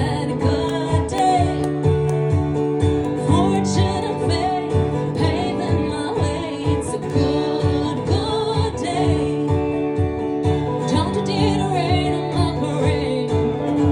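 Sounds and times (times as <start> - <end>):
country band playing: 0.0 - 13.9
guitar melody with gliding notes: 0.0 - 13.9.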